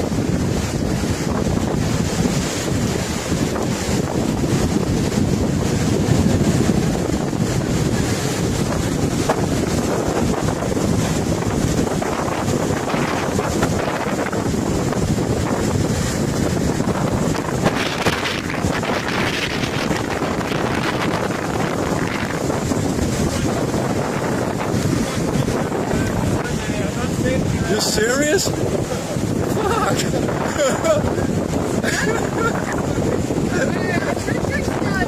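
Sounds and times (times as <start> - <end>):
flood water rushing: 0.0 - 35.0
wind buffeting microphone: 0.0 - 35.0.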